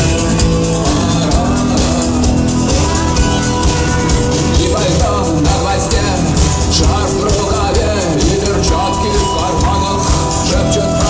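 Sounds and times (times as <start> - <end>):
drums beating: 0.0 - 11.0
rock band playing: 0.0 - 11.0.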